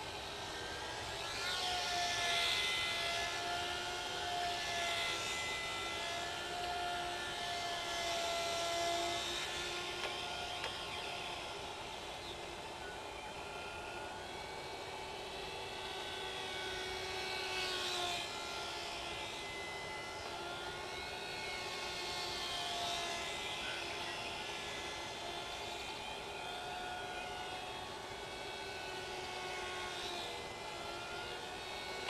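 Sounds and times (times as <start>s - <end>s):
model plane motor whining: 0.0s - 32.0s.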